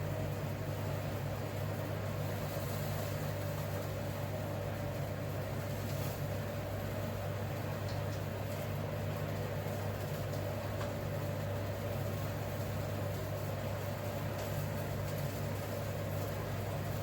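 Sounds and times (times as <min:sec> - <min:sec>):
appliance mechanical hum: 0:00.0 - 0:17.0.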